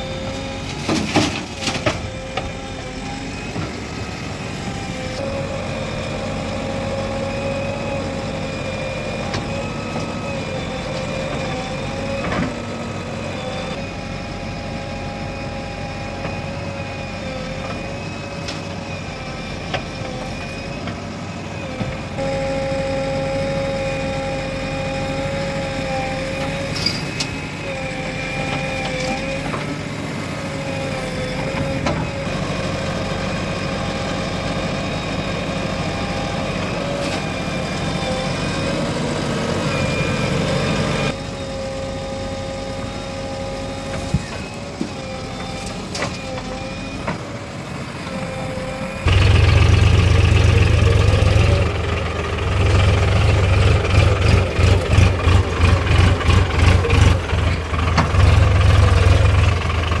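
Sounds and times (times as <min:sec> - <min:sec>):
backhoe engine with hydraulic whine: 0:00.0 - 1:00.0
deep tractor engine drone: 0:00.0 - 1:00.0.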